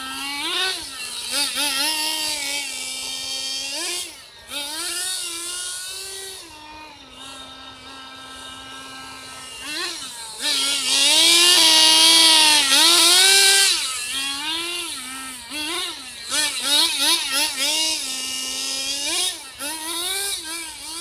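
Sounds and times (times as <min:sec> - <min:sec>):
small engine revving: 0:00.0 - 0:21.0.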